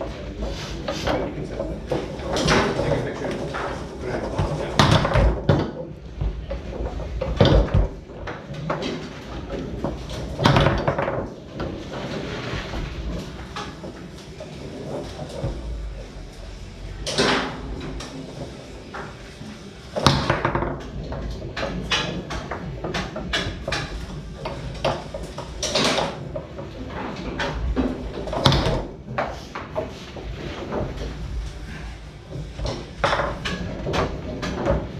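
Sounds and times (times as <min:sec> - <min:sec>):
foosball ball clacking: 0:00.0 - 0:16.0, 0:17.0 - 0:34.9.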